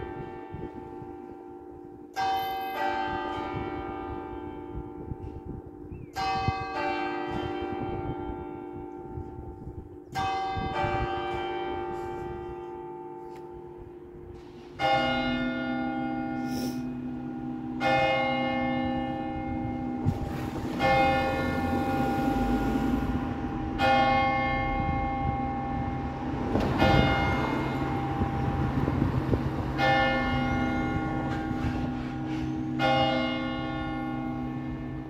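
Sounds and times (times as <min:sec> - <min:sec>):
church bell striking: 0:00.0 - 0:35.0.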